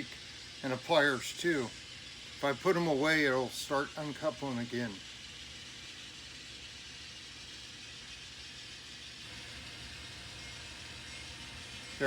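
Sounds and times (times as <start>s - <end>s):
model train motor hum: 0.0s - 12.0s.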